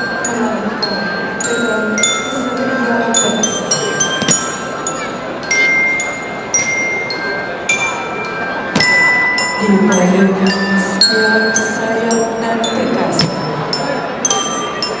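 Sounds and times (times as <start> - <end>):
slow bell-like instrumental music: 0.0 - 15.0.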